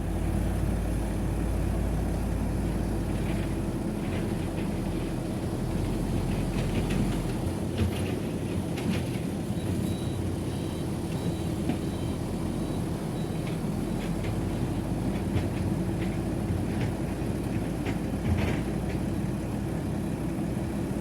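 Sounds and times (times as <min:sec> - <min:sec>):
heavy diesel machinery running: 0:00.0 - 0:21.0.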